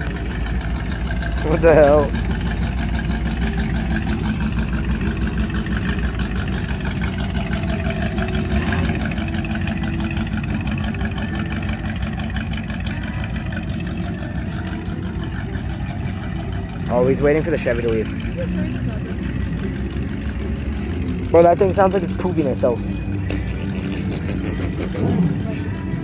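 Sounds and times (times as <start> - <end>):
car engine idling loudly: 0.0 - 26.0.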